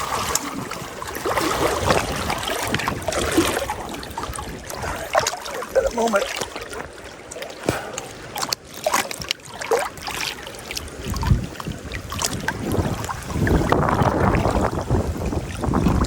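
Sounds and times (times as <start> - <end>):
wind buffeting microphone: 0.0 - 7.0, 9.9 - 16.0.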